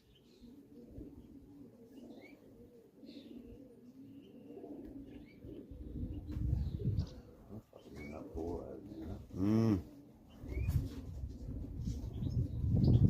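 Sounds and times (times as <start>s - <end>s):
small birds chirping: 0.0s - 10.8s
pigeons cooing: 0.0s - 13.0s.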